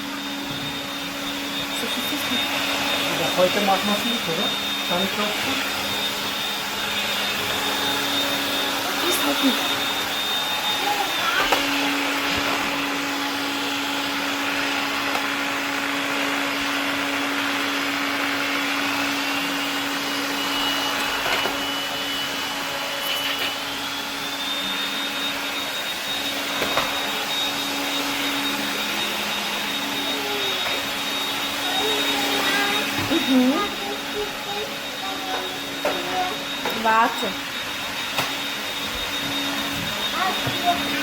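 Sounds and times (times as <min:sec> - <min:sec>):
stick vacuum motor whining: 0:00.0 - 0:41.0.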